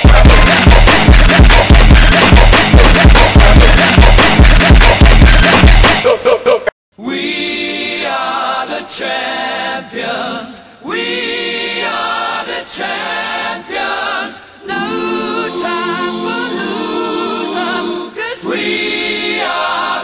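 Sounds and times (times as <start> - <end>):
voices singing in harmony: 0.0 - 5.6, 7.0 - 20.0.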